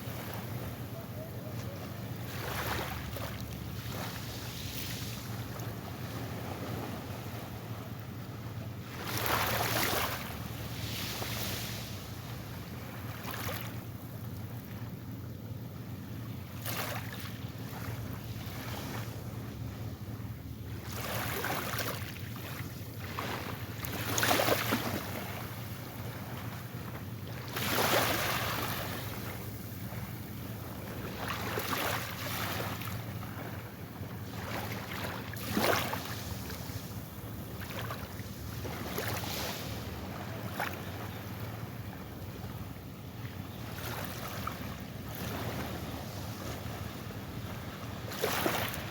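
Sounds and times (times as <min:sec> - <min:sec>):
small ocean waves breaking: 0:00.0 - 0:48.9.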